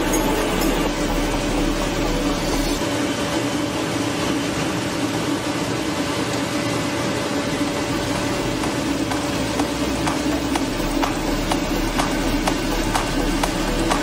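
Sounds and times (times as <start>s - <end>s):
potato peeler machine hum: 0.0s - 14.0s.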